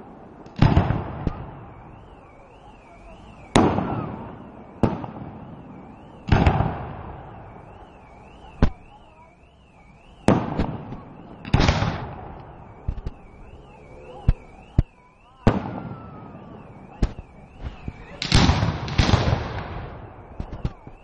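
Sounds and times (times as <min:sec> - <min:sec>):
fireworks bursting with sharp bangs: 0:00.0 - 0:21.0.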